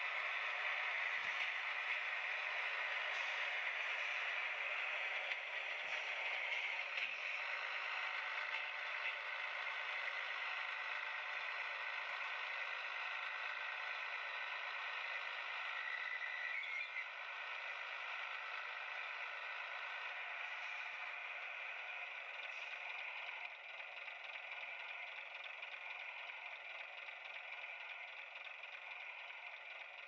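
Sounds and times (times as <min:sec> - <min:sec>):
diesel engine sound from small speaker: 0:00.0 - 0:30.0
model train motor and wheel noise: 0:00.0 - 0:30.0.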